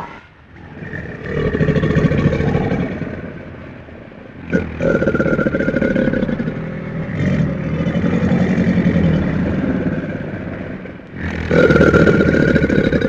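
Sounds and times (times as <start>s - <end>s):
crocodilian growling bellow: 0.0s - 3.6s, 4.4s - 13.0s.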